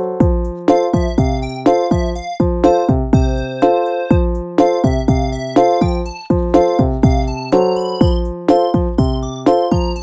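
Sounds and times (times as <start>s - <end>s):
electronic music: 0.0s - 10.0s
sustained keyboard chords: 0.0s - 10.0s
kick drum beat: 0.1s - 10.0s.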